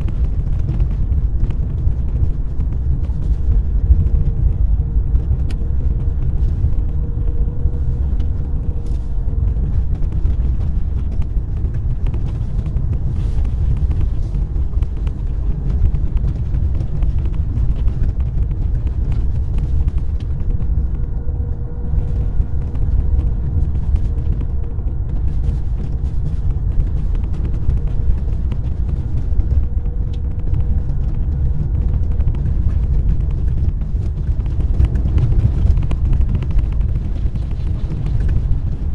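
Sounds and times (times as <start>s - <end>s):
low rumble of tyres and engine: 0.0s - 38.9s
tyres crackling on snow: 0.0s - 38.9s.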